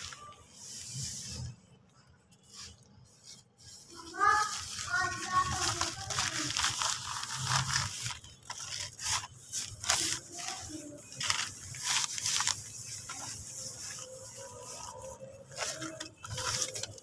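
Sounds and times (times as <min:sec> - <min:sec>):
hand scraping gritty cement mix: 0:02.4 - 0:17.0.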